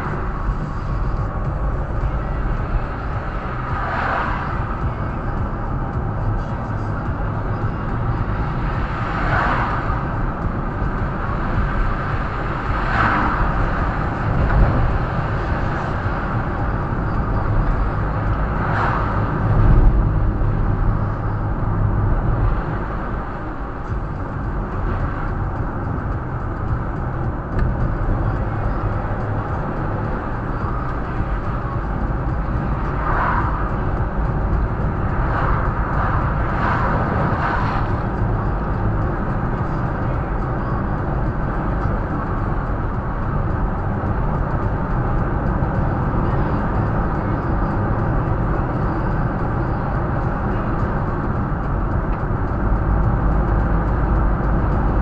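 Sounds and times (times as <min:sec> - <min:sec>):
road vehicle rumble: 0:00.0 - 0:55.0.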